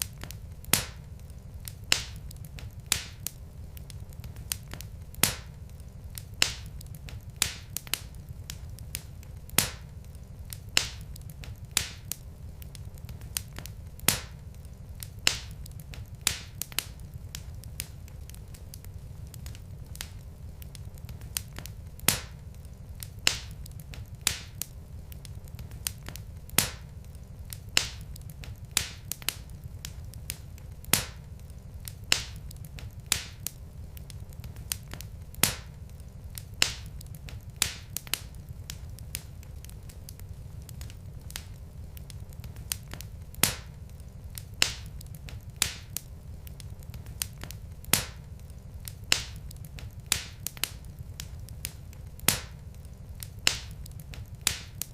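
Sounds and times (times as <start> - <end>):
fire crackles and pops: 0.0 - 54.9
low steady rumble of fire: 0.0 - 54.9.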